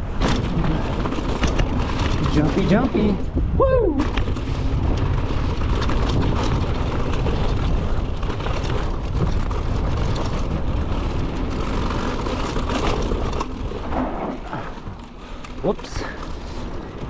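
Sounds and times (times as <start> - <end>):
bike rattling and knocking: 0.0 - 17.0
bike tyres on dirt: 0.0 - 17.0
wind rushing over microphone: 0.0 - 17.0.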